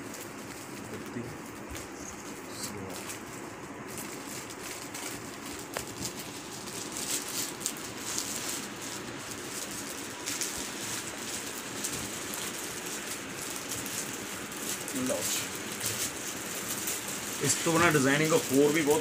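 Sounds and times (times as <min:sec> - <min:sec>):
fabric rustling: 0:00.0 - 0:19.0.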